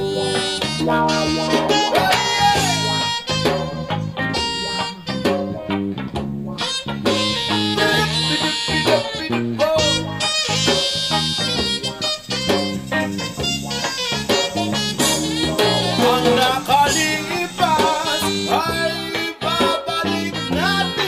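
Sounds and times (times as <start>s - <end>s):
song with sliding melody: 0.0s - 21.0s.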